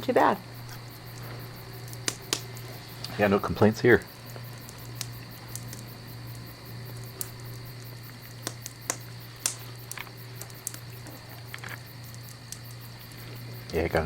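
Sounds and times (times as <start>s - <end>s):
log fire popping and crackling: 0.0s - 14.0s
steady low hum: 0.0s - 14.0s.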